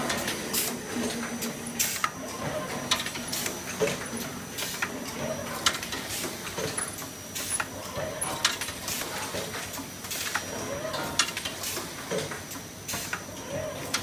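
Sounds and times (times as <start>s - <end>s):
metallic clicks and clanks of machine: 0.0s - 14.0s.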